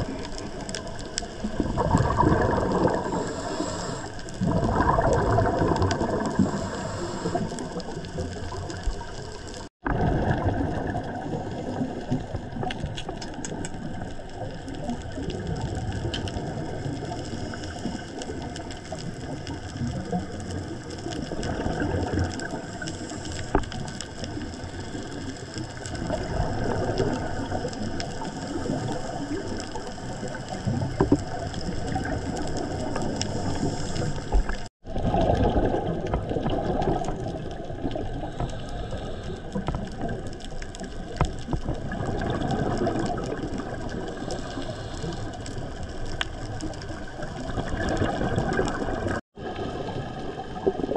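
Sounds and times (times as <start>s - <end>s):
underwater crackle of clicks: 0.0s - 49.2s
scuba exhaust bubbles rumbling: 0.0s - 50.9s.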